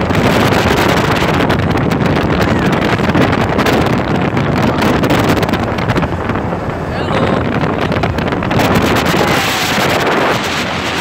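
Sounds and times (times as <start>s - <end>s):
speedboat moving through water: 0.0s - 11.0s
wind buffeting microphone: 0.0s - 11.0s.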